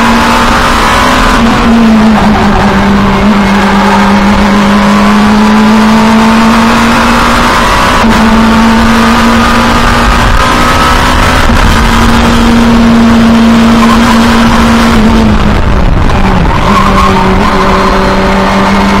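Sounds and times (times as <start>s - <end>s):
race car engine from cockpit: 0.0s - 19.0s.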